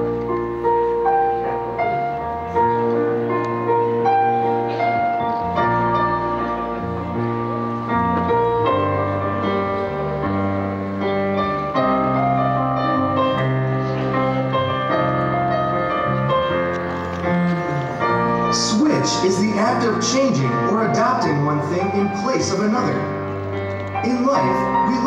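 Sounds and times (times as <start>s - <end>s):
keyboards playing sustained chords: 0.0s - 25.0s.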